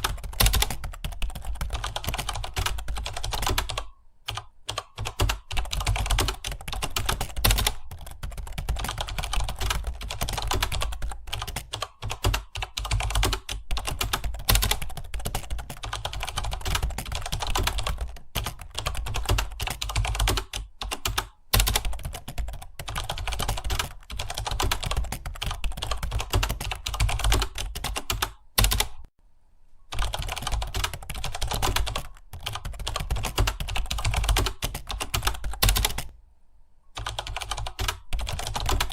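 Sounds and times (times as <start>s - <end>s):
fast keyboard typing: 0.0s - 29.1s, 29.9s - 36.1s, 37.0s - 38.9s.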